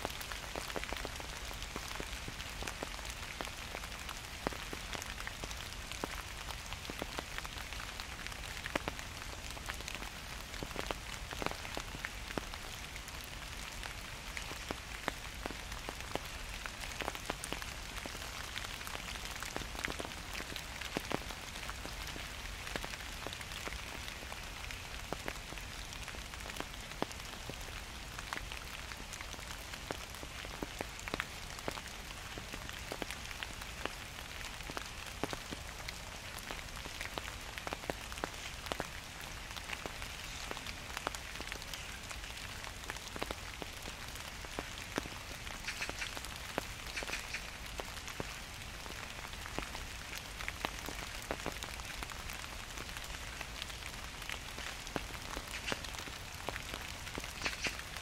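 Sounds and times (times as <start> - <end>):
gentle rain falling: 0.0 - 58.0
sharp raindrops striking surfaces: 0.0 - 58.0.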